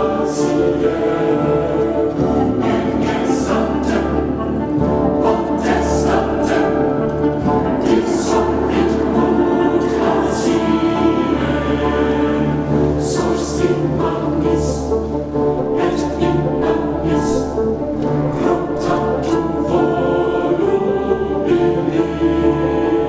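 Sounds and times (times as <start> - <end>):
choir singing: 0.0 - 23.0
orchestral music: 0.0 - 23.0.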